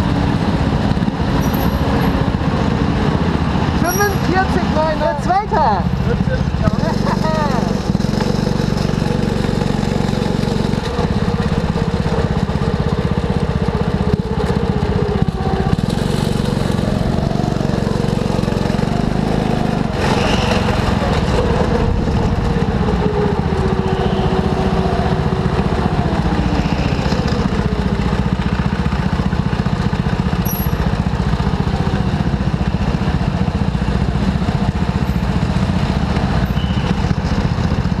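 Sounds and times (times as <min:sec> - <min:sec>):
go-kart engine revving: 0:00.0 - 0:38.0.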